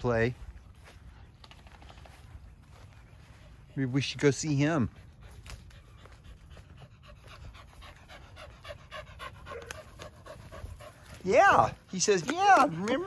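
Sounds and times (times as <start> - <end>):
dog panting: 2.0 - 13.0.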